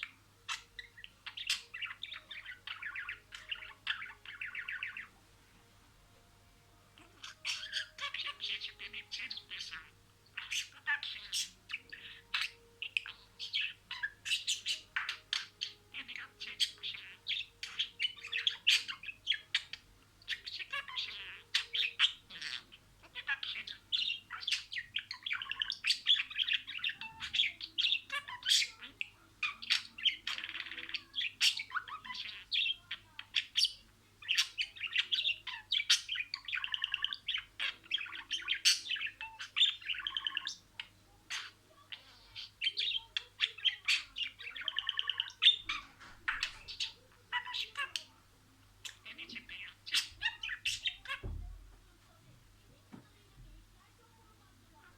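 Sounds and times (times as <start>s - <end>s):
budgerigar chattering and warbling: 0.0s - 5.1s, 7.0s - 48.2s, 48.8s - 51.5s.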